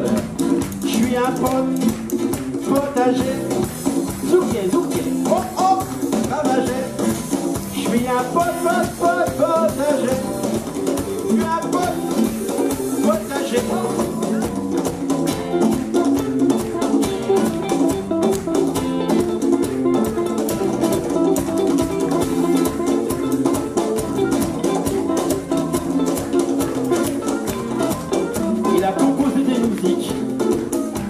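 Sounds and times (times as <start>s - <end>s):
drum kit beat: 0.0s - 31.0s
electric bass: 0.0s - 31.0s
guitars: 0.0s - 31.0s.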